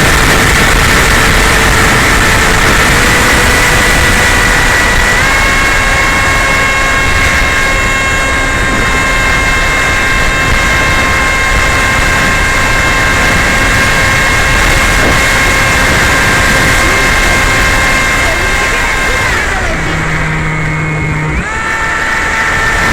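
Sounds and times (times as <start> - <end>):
propeller motor whining: 0.0 - 22.9
rushing air noise: 0.0 - 22.9.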